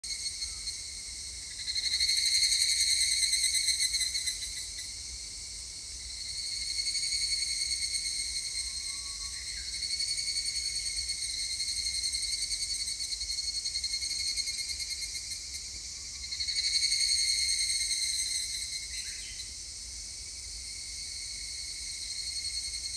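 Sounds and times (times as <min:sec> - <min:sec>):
cicada pulsing trill: 0:00.1 - 0:22.9.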